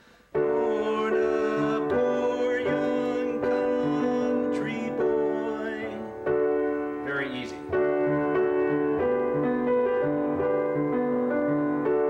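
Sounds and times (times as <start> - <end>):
upright piano playing chords: 0.3 - 12.0.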